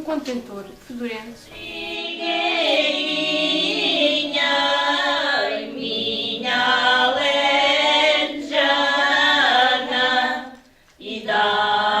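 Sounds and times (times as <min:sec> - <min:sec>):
voices singing: 0:01.5 - 0:12.0.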